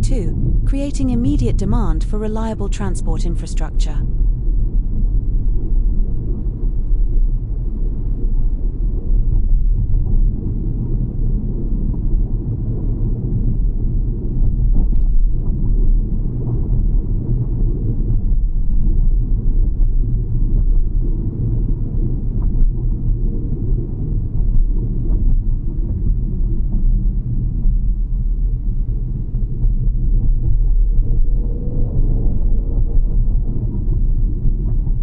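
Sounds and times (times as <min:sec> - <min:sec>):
vehicle and road rumble: 0:03.9 - 0:35.0.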